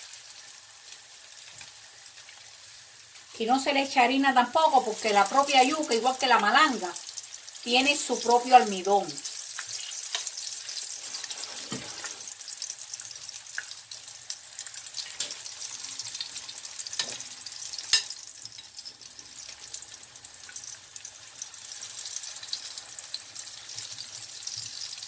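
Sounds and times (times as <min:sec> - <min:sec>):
fritters sizzling in oil: 0:00.0 - 0:25.0.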